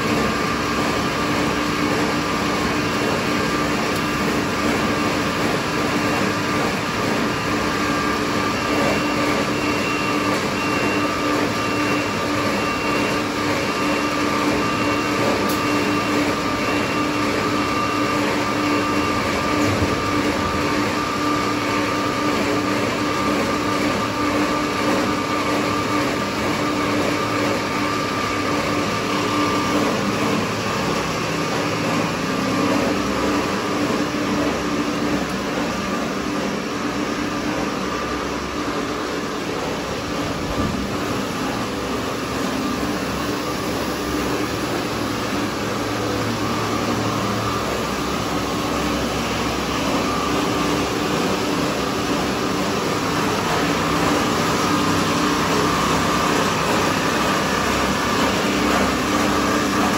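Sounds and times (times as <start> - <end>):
factory machinery hum: 0.0 - 59.9.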